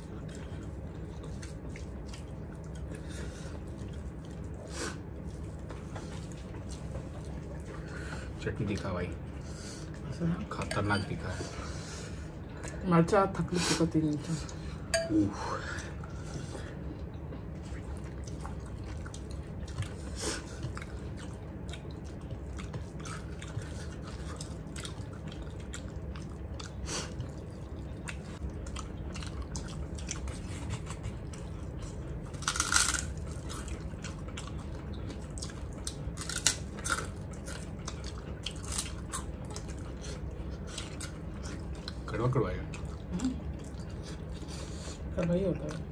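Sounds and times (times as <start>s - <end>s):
people chewing and biting: 0.0s - 11.8s, 15.6s - 45.9s
steady low hum: 0.0s - 45.9s.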